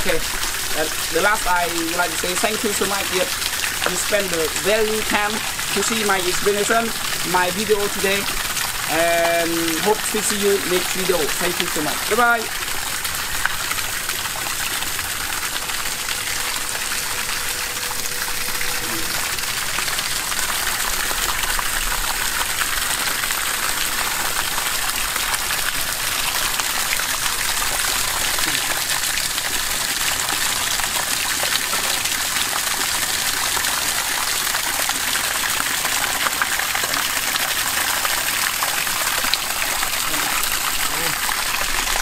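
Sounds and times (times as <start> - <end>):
water gushing from pipe: 0.0 - 42.0
water splashing on leaves: 0.0 - 42.0.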